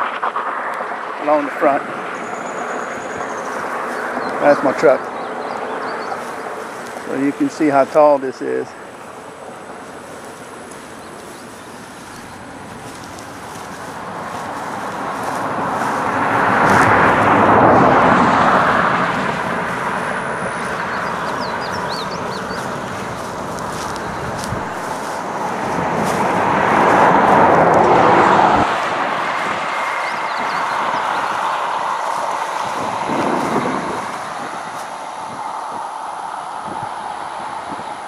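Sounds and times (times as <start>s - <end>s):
vehicles passing on road: 0.0s - 38.0s.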